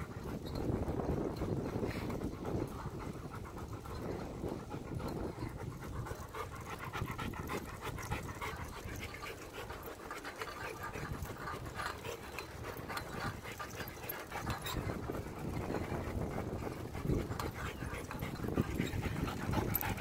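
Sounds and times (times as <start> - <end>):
dog panting rapidly: 0.0 - 20.0
wind and tyres rumbling: 0.0 - 20.0.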